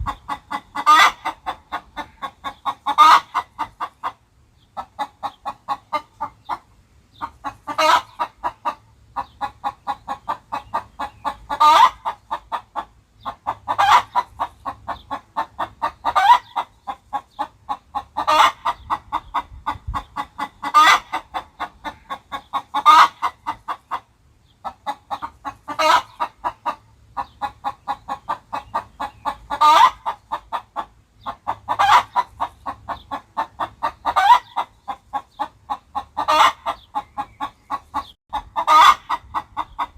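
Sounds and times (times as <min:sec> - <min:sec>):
chicken squawking: 0:00.0 - 0:04.2, 0:07.2 - 0:08.8, 0:09.4 - 0:24.0, 0:24.7 - 0:39.9
chicken clucking: 0:00.0 - 0:39.9.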